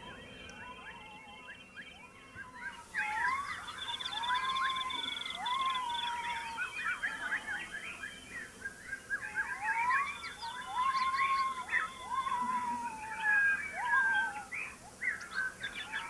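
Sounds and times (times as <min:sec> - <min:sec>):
birds chirping and calling: 0:00.0 - 0:16.0
rapid high bird trill: 0:00.0 - 0:16.0
rising whistled bird notes: 0:00.0 - 0:16.0.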